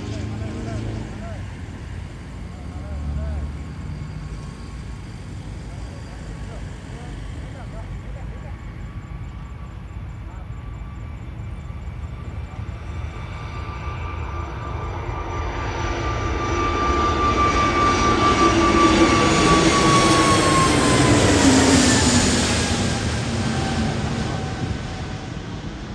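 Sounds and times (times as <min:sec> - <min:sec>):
jet taking off: 0:00.0 - 0:25.9.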